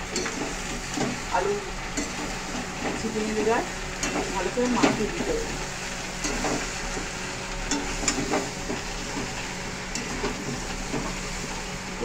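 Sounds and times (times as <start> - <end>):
spatula stirring: 0.0 - 11.8
food sizzling in oil: 0.0 - 12.0.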